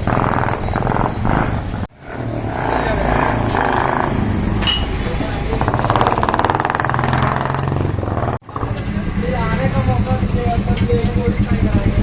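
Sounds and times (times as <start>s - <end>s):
motorcycle riding past: 2.0s - 12.0s.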